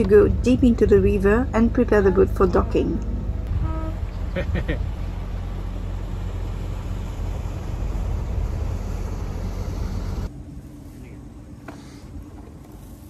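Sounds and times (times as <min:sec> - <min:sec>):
outboard motor rumble: 0:00.0 - 0:13.0.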